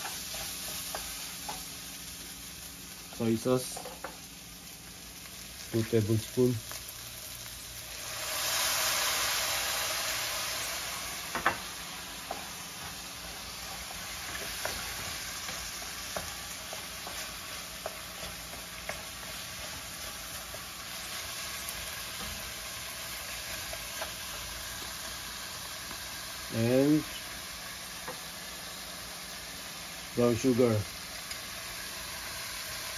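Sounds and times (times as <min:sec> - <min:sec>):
sauce sizzling in hot frying pan: 0:00.0 - 0:32.9.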